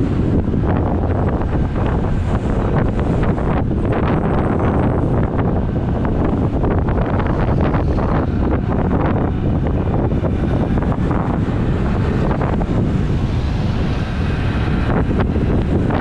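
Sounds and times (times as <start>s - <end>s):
heavy wind on microphone: 0.0s - 16.0s
road noise: 0.0s - 16.0s.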